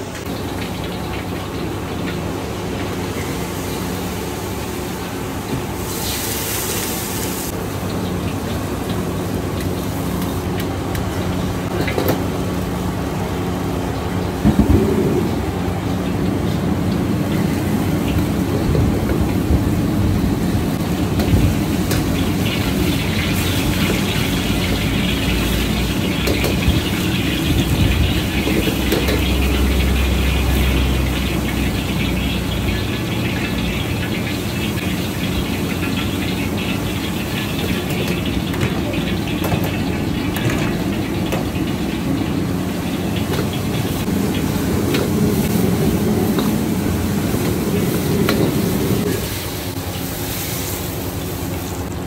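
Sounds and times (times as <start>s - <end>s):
street traffic and engines: 0.0s - 52.0s.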